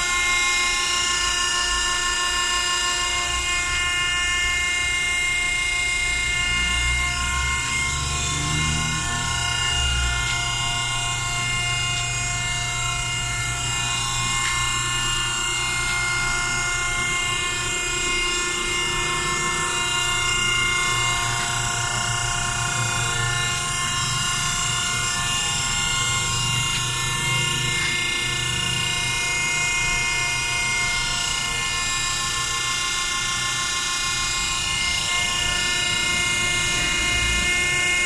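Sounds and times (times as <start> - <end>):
high pump whine: 0.0 - 38.0
hydraulic pump motor hum: 4.0 - 38.0.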